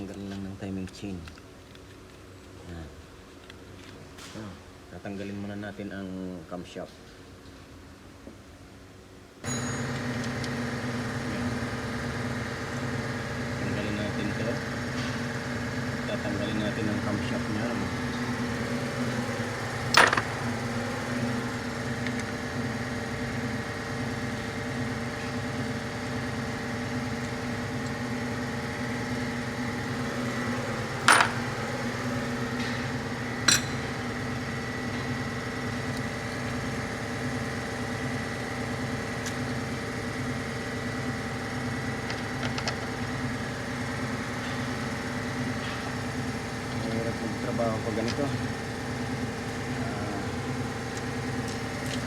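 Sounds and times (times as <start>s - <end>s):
droning machine hum: 8.8s - 52.0s.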